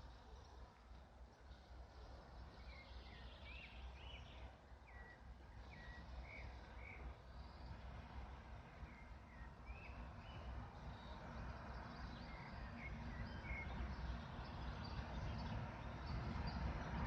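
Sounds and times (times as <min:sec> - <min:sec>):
faint low locomotive rumble: 0:00.0 - 0:17.0.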